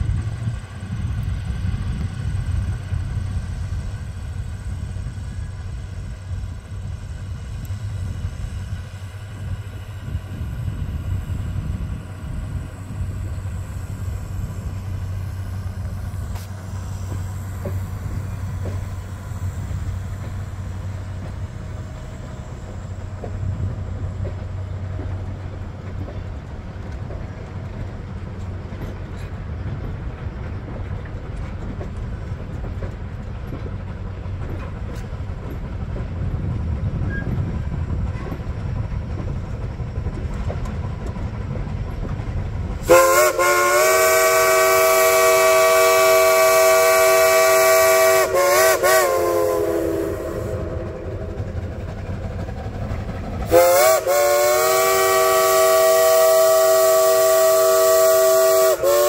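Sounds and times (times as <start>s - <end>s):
train coaches rumbling on rails: 0.0s - 59.0s.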